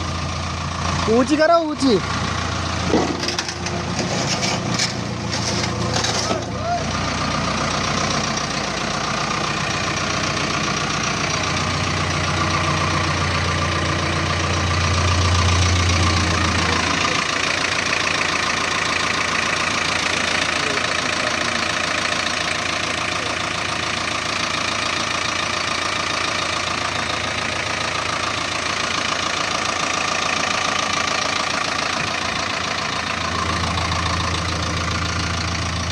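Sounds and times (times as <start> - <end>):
diesel engine knocking clatter: 0.0 - 35.9.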